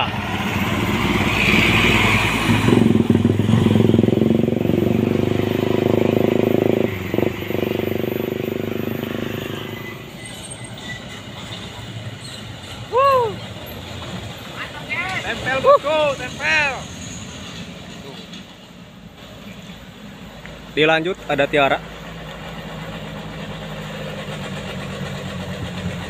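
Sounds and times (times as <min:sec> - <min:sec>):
bus diesel engine passing: 0:00.0 - 0:26.0.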